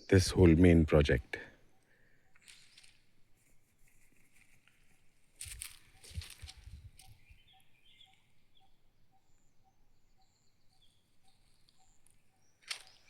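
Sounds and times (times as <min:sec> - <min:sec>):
faint birdsong chirps: 0:00.0 - 0:13.0.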